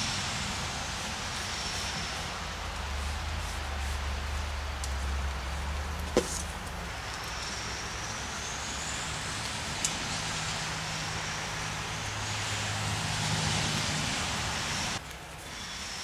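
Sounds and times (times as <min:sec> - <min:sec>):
light rain hissing: 0:00.0 - 0:16.0
road traffic hum: 0:00.0 - 0:16.0.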